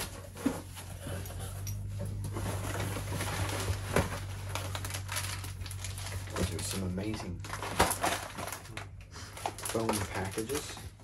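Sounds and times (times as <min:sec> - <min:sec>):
plastic packing cushions crinkling: 0:00.0 - 0:11.0.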